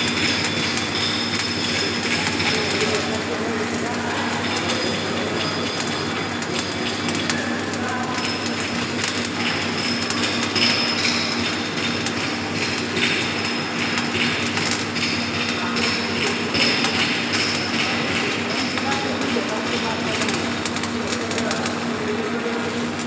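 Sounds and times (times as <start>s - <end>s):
welding arc crackling: 0.0s - 23.0s.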